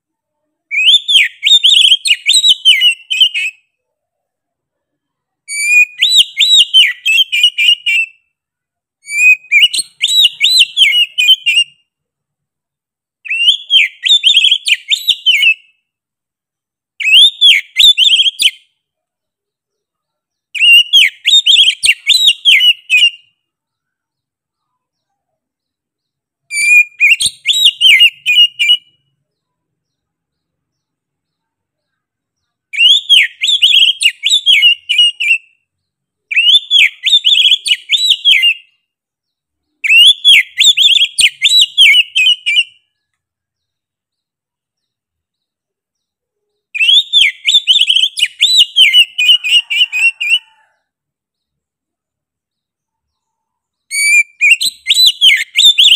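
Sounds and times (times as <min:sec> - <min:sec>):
bird singing whistled notes: 0:00.7 - 0:03.9, 0:05.5 - 0:08.4, 0:09.0 - 0:12.0, 0:13.2 - 0:15.9, 0:17.0 - 0:18.9, 0:19.8 - 0:50.8, 0:52.5 - 0:55.9.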